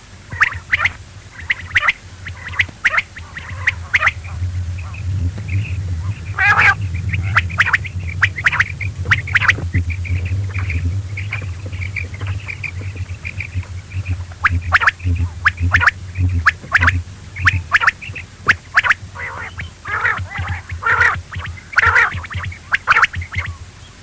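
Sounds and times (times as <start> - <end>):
steady low hum: 0.0 - 24.0
quail calling: 0.3 - 24.0.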